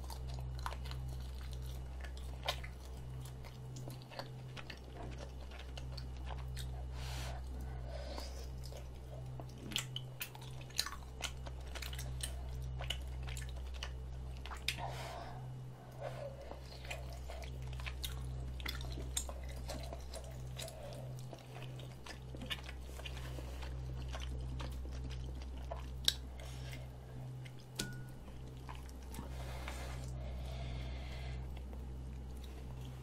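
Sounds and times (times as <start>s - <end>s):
wet chewing and smacks: 0.0s - 30.6s, 31.3s - 33.0s
low electrical hum: 0.0s - 33.0s.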